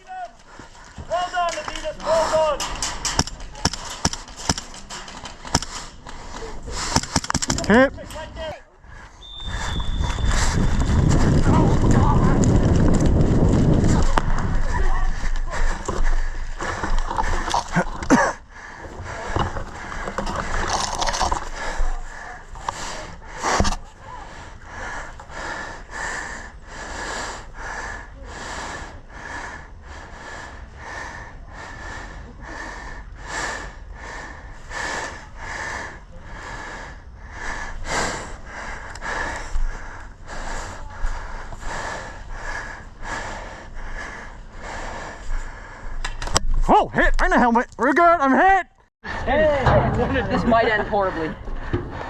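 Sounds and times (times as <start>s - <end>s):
rapid hard breathing: 0.0s - 46.6s, 50.5s - 52.0s.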